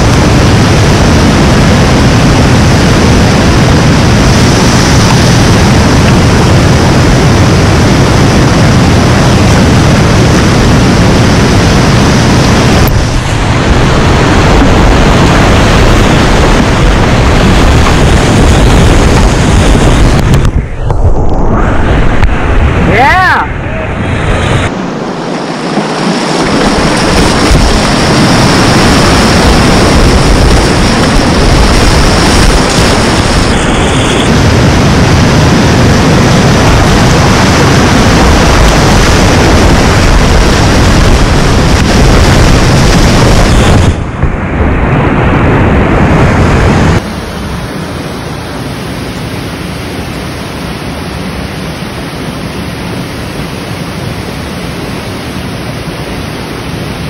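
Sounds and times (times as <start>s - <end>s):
whitewater roaring: 0.0s - 57.0s.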